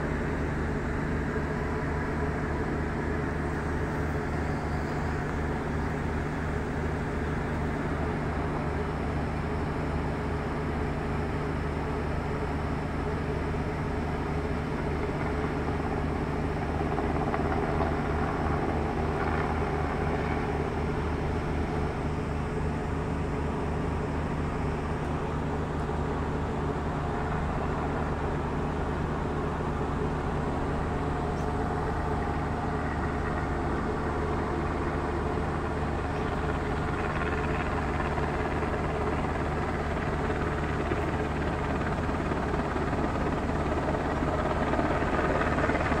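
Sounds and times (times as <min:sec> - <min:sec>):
helicopter rotor drone: 0:00.0 - 0:46.0.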